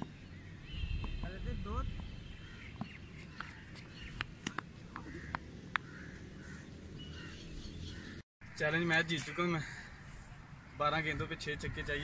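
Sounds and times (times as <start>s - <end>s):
birds chirping and cawing: 0.0s - 12.0s.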